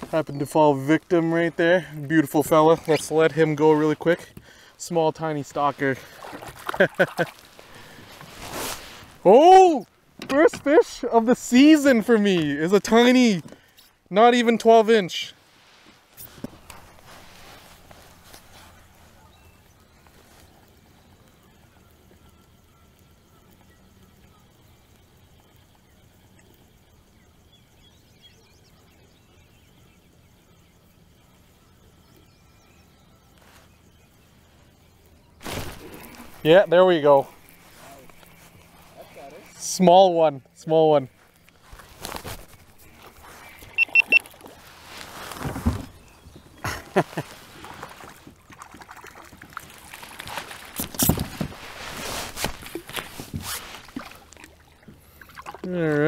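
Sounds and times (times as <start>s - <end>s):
birds chirping: 0.0s - 48.5s.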